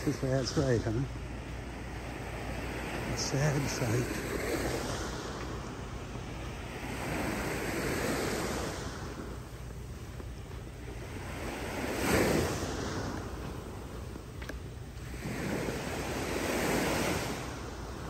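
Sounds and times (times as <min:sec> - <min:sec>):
surf washing onto beach: 0:00.0 - 0:18.0
wind buffeting microphone: 0:00.0 - 0:18.0.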